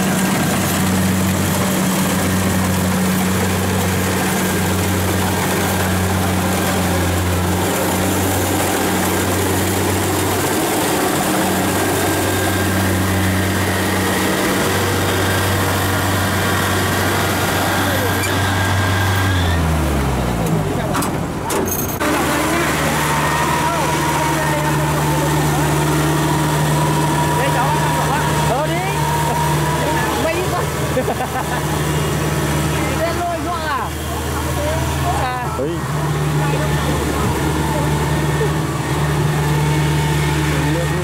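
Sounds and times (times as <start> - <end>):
combine harvester engine humming: 0.0 - 41.0.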